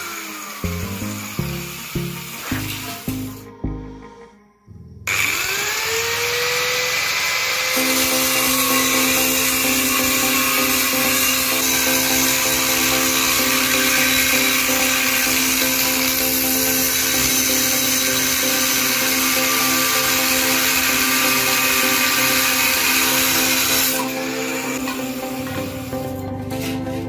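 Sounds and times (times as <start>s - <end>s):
power tool motor whine: 0.0s - 3.1s, 5.1s - 26.3s.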